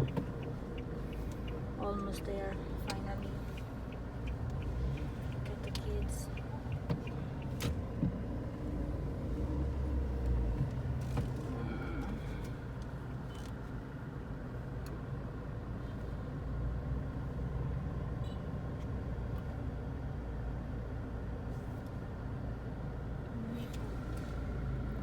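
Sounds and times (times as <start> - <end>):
car engine low rumble: 0.0 - 25.0.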